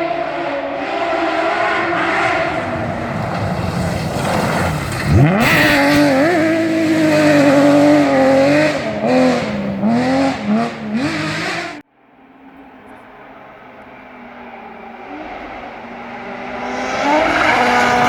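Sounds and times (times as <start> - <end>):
rally car engine revving: 0.0 - 11.9, 12.9 - 18.0.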